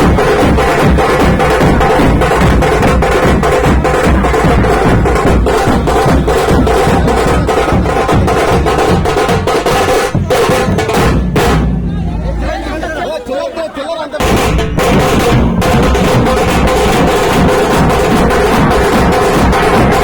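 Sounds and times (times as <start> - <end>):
loud percussion-driven music: 0.0 - 13.1, 14.2 - 20.0.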